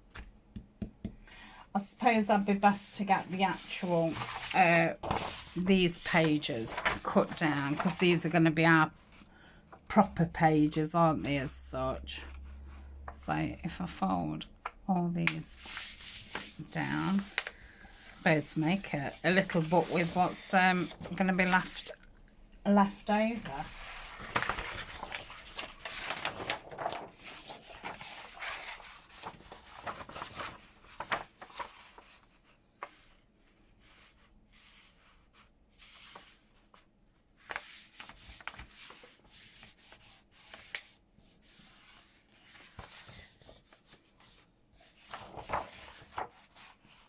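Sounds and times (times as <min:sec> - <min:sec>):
paper rustling and folding: 0:01.0 - 0:10.4, 0:12.2 - 0:22.0, 0:22.8 - 0:47.0.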